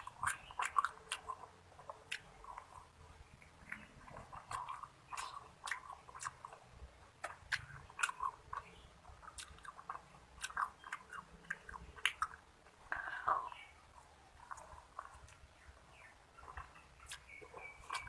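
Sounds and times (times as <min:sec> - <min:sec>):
close chewing of food: 0:00.0 - 0:18.0.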